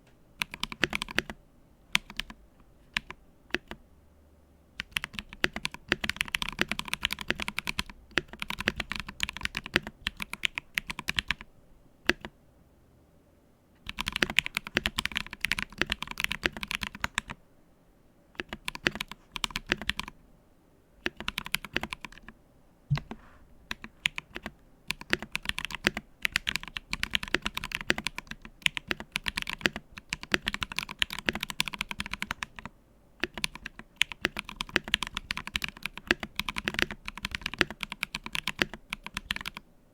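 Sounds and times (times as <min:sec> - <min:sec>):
mechanical keyboard typing: 0:00.4 - 0:03.8, 0:04.8 - 0:11.5, 0:12.1 - 0:12.4, 0:13.8 - 0:17.4, 0:18.4 - 0:20.2, 0:21.0 - 0:22.3, 0:22.9 - 0:39.6.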